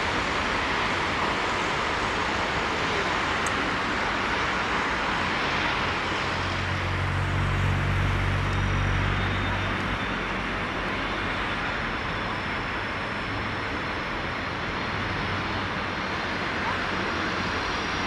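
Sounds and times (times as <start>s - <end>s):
jet airliner engines rushing: 0.0s - 18.0s
low traffic hum: 0.0s - 18.0s.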